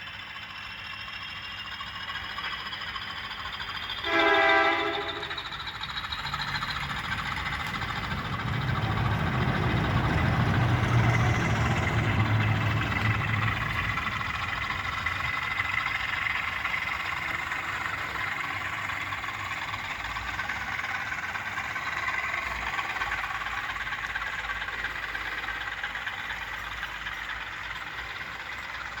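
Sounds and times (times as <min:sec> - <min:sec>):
diesel locomotive engine throb: 0:00.0 - 0:29.0
train rolling rumble: 0:00.0 - 0:29.0.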